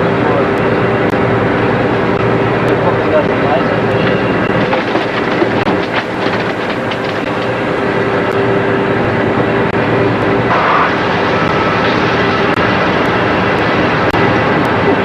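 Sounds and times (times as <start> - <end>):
boat engine drone: 0.0 - 15.0
hum: 0.0 - 15.0.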